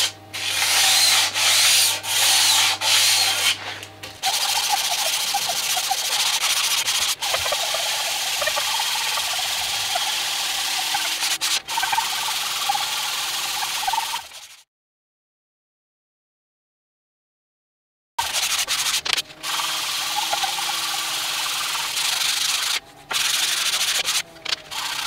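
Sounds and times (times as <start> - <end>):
abrasive block rubbing metal: 0.0 - 14.6, 18.2 - 25.0.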